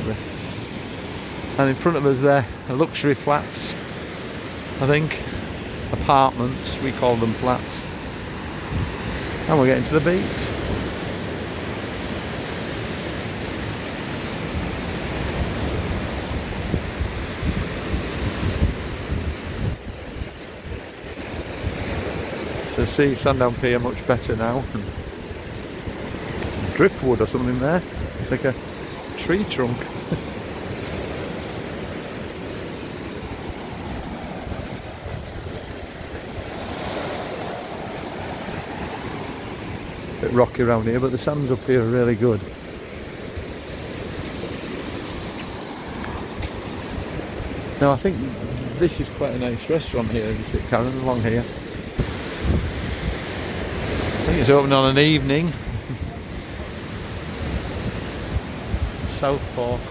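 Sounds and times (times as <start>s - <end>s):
surf breaking on beach: 0.0s - 59.9s
wind rumbling on microphone: 2.4s - 59.9s.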